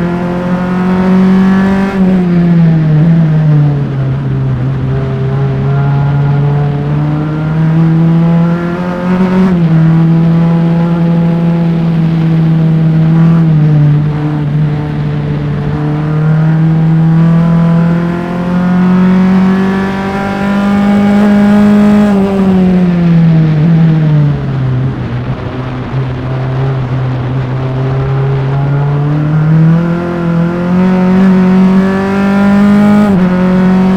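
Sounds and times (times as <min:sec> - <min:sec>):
race car engine at full throttle: 0:00.0 - 0:33.9.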